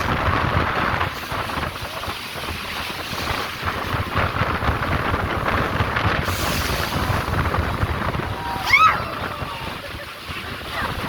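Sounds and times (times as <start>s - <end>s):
boat engine: 0.0s - 11.0s
water rushing: 0.0s - 11.0s
wind buffeting microphone: 0.0s - 11.0s.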